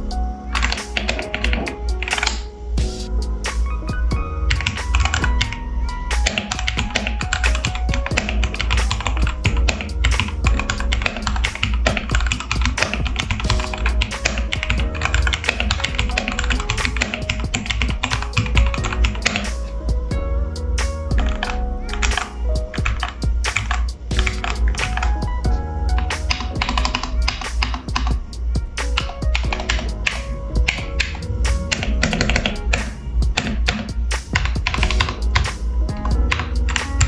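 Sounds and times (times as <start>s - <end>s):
background music: 0.0s - 37.0s
mechanical keyboard typing: 0.6s - 2.5s, 4.5s - 5.6s, 6.2s - 19.5s, 21.2s - 25.2s, 26.0s - 28.2s, 29.0s - 37.0s.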